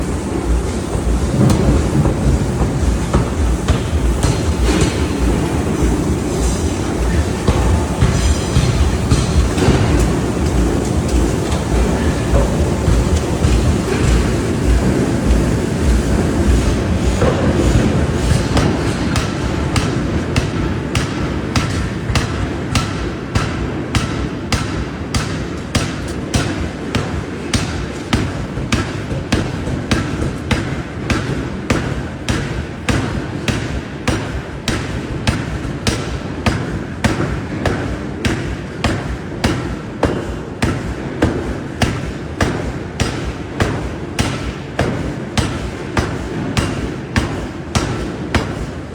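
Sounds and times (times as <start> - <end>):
forging hammer striking steel: 1.4 - 48.9.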